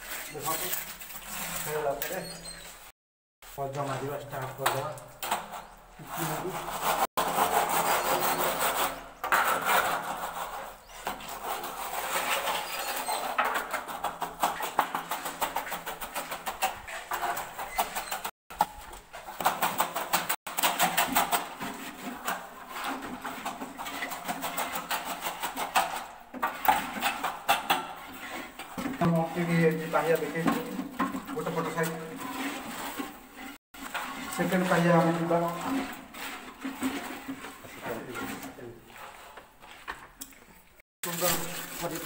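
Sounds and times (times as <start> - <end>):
metal straightedge scraping wet concrete: 0.0 - 2.9, 4.0 - 18.7, 19.3 - 39.9.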